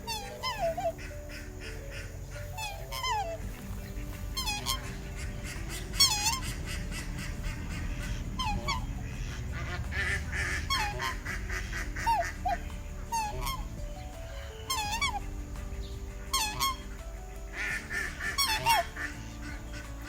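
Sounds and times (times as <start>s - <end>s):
goose honking: 0.0s - 20.0s.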